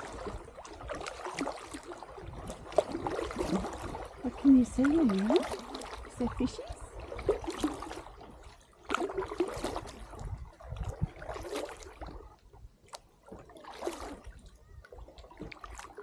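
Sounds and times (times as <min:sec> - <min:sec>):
paddle splashing through water: 0:00.0 - 0:16.0
water dripping from paddle: 0:00.0 - 0:16.0.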